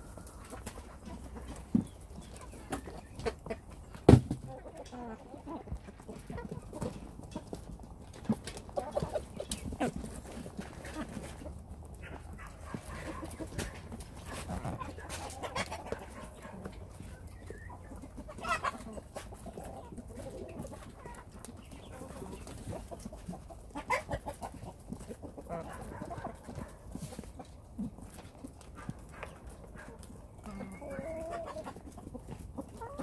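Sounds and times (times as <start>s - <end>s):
chickens clucking: 0.0s - 33.0s
clicks and taps of animals feeding: 0.0s - 33.0s.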